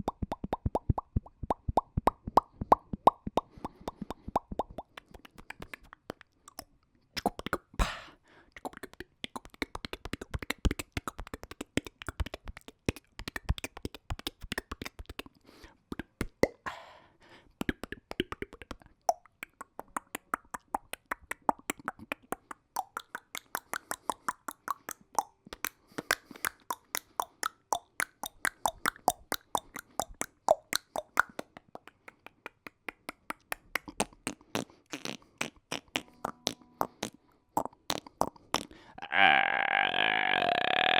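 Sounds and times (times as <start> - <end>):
mouth clicks and smacks: 0.0 - 39.0.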